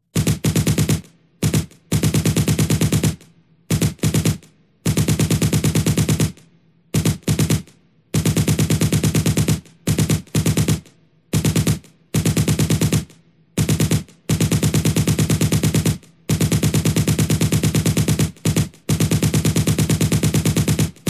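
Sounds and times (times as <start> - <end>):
machine gun firing bursts: 0.2 - 21.0.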